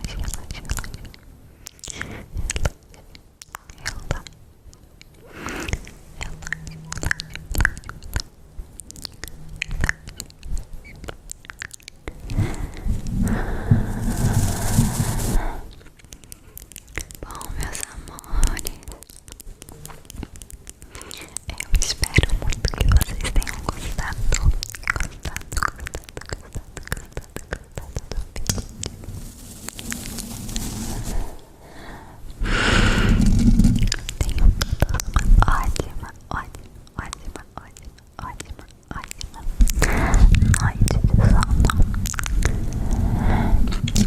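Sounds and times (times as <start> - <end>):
wet mouth clicks and smacks: 0.0 - 13.2, 15.7 - 29.0, 33.2 - 43.1, 43.7 - 44.0.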